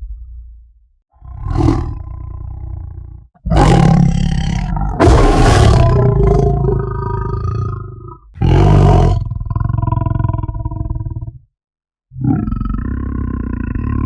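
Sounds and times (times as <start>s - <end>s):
big cat roar: 1.2s - 11.3s, 12.2s - 14.0s
big cat snarl and growl: 1.2s - 11.3s, 12.2s - 14.0s.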